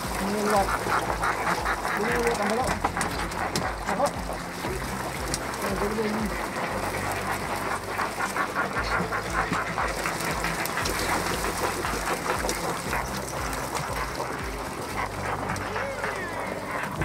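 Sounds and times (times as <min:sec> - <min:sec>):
water splashing off fishing net: 0:00.0 - 0:17.0.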